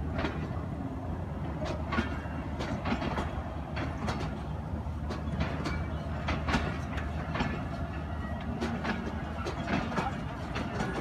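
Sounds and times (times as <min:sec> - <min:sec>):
train coaches rumbling past: 0:00.0 - 0:11.0
wheels clicking over rail joints: 0:00.0 - 0:11.0.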